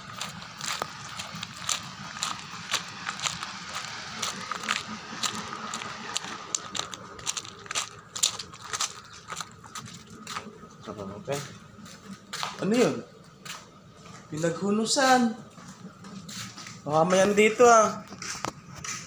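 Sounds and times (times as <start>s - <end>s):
footsteps crunching on gravel: 0.0s - 19.0s.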